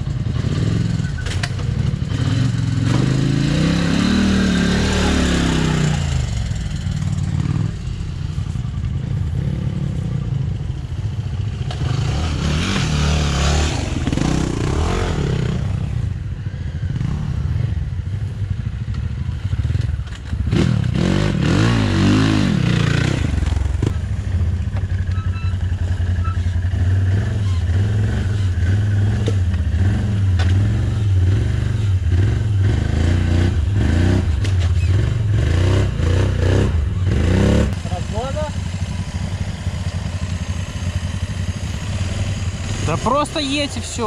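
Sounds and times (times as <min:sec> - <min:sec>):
quad bike engine revving: 0:00.0 - 0:08.0, 0:11.3 - 0:16.0, 0:19.6 - 0:44.0.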